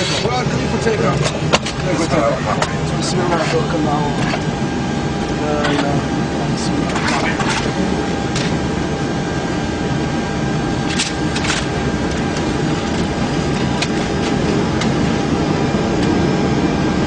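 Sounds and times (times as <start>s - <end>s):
jet engines rushing hum: 0.0s - 17.0s.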